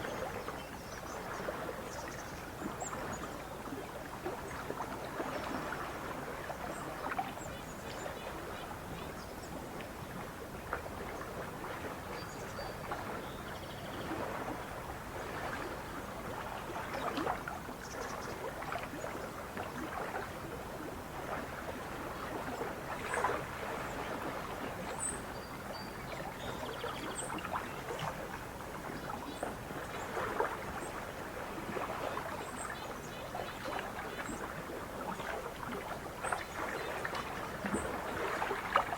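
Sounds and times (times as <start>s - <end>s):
lake water lapping and splashing: 0.0s - 38.9s.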